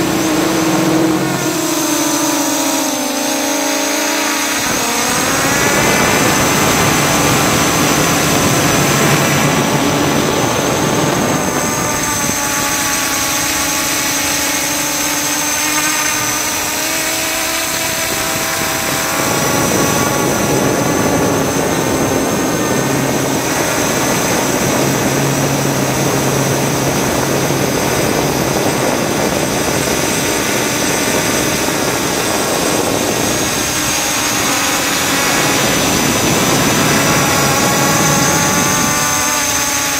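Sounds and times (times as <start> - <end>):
drone motors whining: 0.0 - 39.9
steady rushing noise: 0.0 - 39.9.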